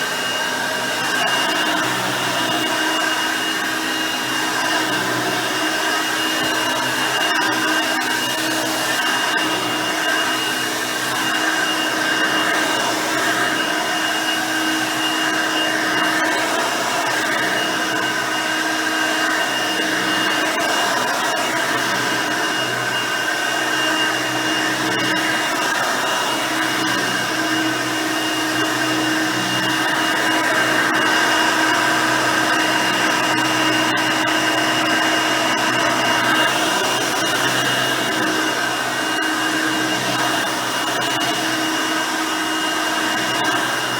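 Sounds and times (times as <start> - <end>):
upright vacuum cleaner running: 0.0 - 43.9.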